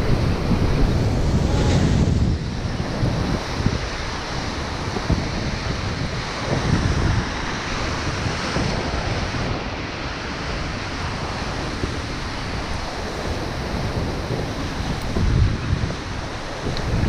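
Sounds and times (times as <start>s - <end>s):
surf washing over rocks: 0.0s - 17.0s
wind buffeting microphone: 0.0s - 17.0s.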